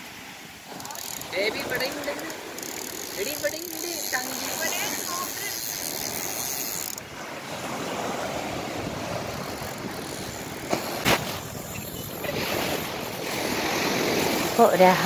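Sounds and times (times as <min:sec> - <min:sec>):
sea surf washing up beach: 0:00.0 - 0:15.0.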